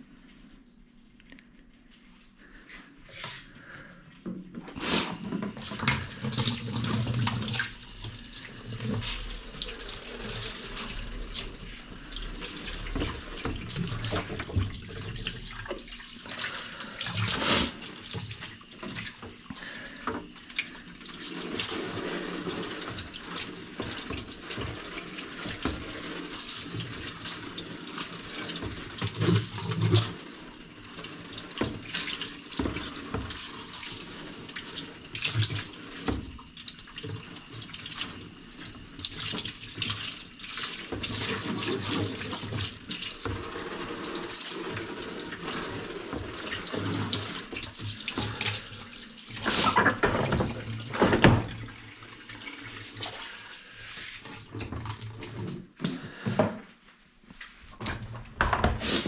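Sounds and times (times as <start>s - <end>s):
water running and splashing: 4.8s - 55.7s.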